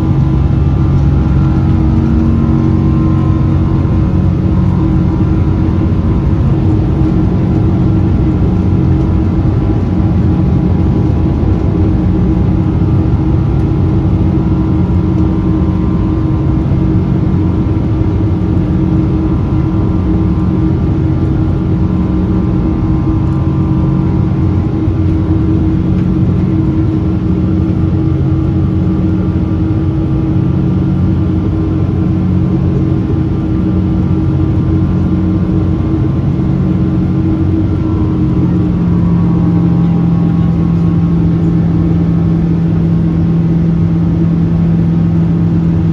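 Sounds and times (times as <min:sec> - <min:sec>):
jet engines droning in cabin: 0:00.0 - 0:45.9.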